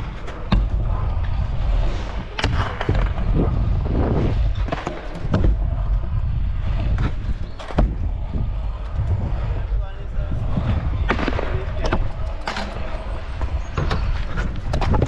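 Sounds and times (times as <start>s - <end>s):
scooter rolling rumble: 0.0s - 15.0s.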